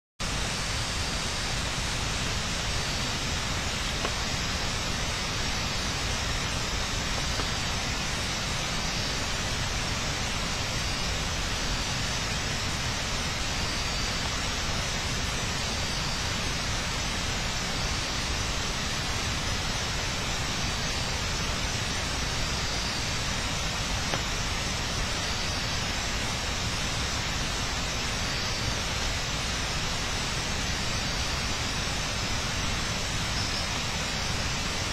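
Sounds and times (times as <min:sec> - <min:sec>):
steady hiss: 0:00.2 - 0:34.9.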